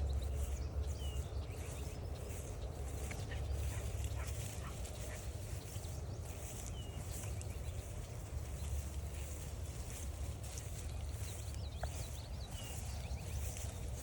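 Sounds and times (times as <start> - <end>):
distant birds: 0.0 - 14.0
steady low rumble: 0.0 - 14.0.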